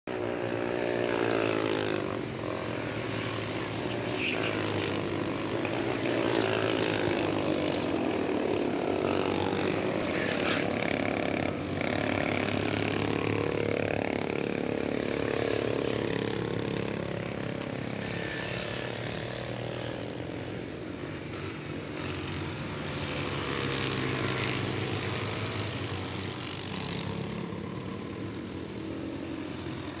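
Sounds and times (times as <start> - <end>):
go-kart engines running: 0.1 - 30.0.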